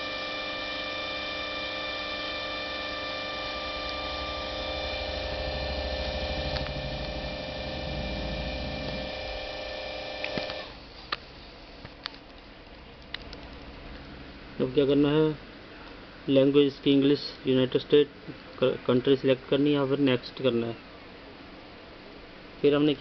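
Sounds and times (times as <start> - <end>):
laptop whine and hum: 0.0 - 23.0.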